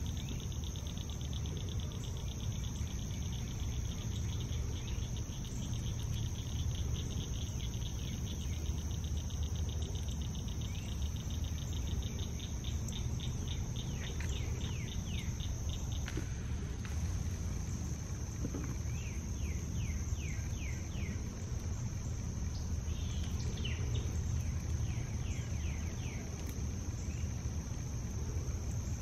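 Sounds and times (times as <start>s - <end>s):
insects chirping in fast pulse: 0.0s - 29.0s.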